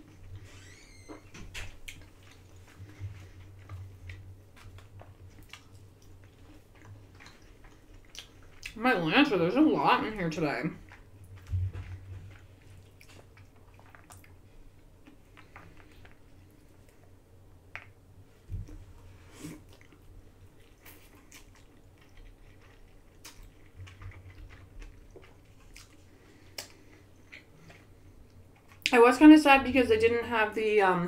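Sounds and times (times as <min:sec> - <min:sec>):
noodles being chewed: 0:01.7 - 0:08.8, 0:10.7 - 0:28.9.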